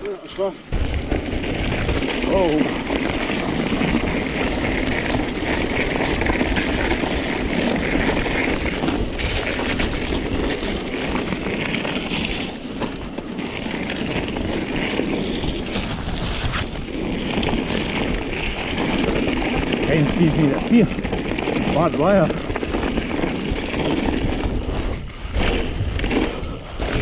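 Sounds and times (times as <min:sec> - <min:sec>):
mountain bike on rough trail: 0:00.0 - 0:27.0
wind on microphone: 0:00.7 - 0:27.0.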